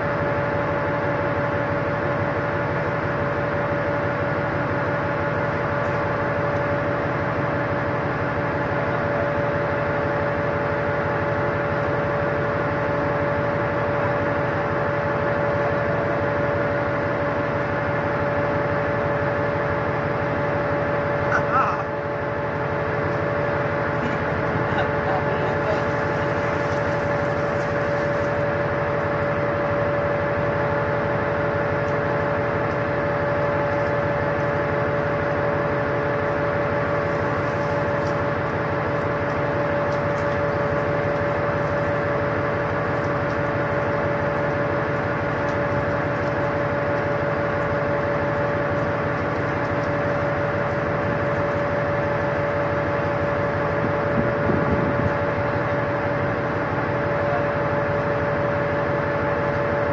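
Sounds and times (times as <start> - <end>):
ship machinery humming: 0.0 - 59.9.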